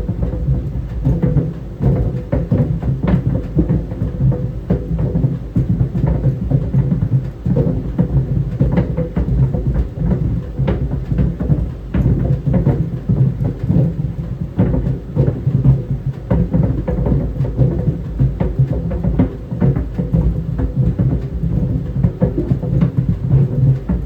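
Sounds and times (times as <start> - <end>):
balls thumping in dryer drum: 0.0 - 24.0
clothes dryer rumble: 4.5 - 24.0.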